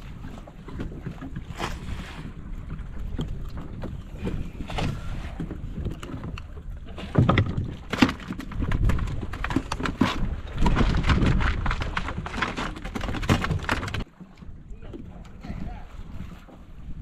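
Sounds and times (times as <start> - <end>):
boat rumble: 0.0 - 17.0
wind: 0.0 - 17.0.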